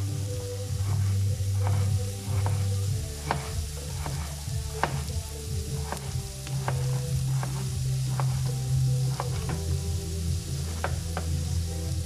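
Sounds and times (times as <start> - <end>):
low steady hum: 0.0 - 12.0
vegetables sizzling in a pan: 0.0 - 12.0.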